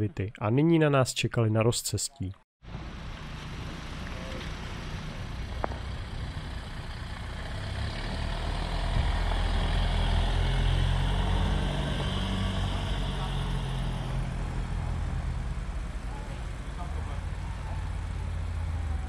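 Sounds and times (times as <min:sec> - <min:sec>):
car engine running slowly: 0:02.7 - 0:19.0.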